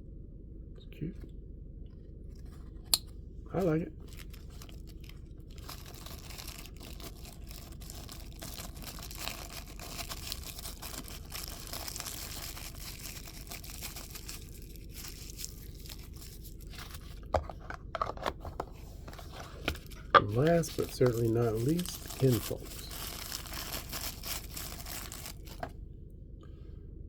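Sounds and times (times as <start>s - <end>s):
packaging crinkling and tearing: 4.0s - 25.7s.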